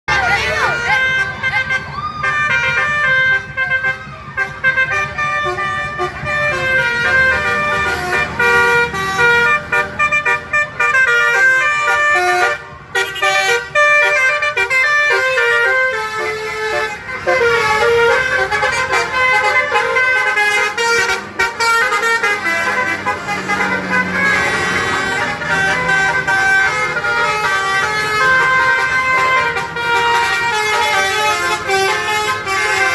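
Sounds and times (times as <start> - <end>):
multi-tone musical horn melody: 0.1 - 32.9.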